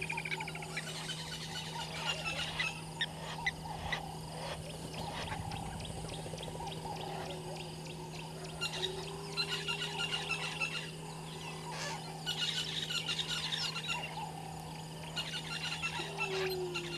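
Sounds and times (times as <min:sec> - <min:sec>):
high chirps and wildlife calls: 0:00.0 - 0:16.9
steady low hum: 0:00.0 - 0:16.9.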